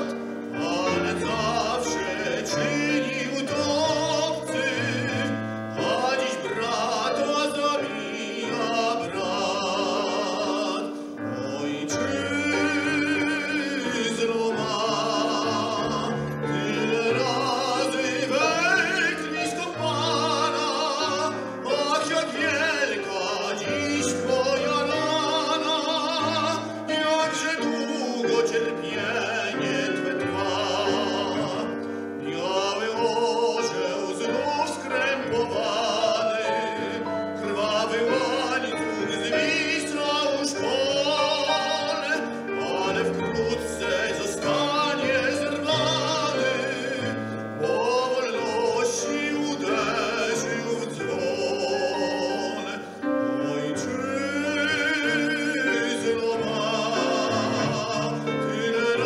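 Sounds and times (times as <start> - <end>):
man singing opera: 0.0 - 59.0
piano: 0.0 - 59.0.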